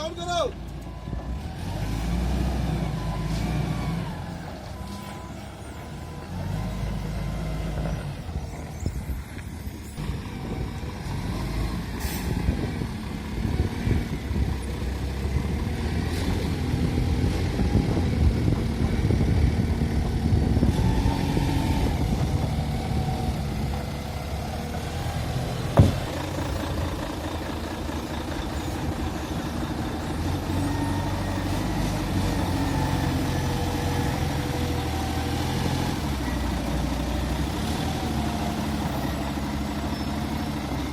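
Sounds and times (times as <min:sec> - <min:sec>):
heavy vehicle engine running: 0:00.0 - 0:40.9.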